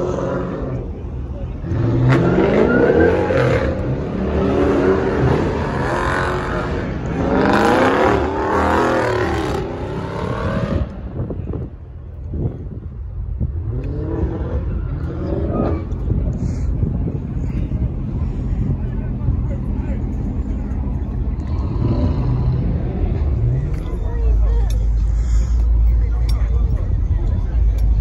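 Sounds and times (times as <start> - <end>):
car engines revving: 0.0 - 28.0
low engine rumble: 0.0 - 28.0.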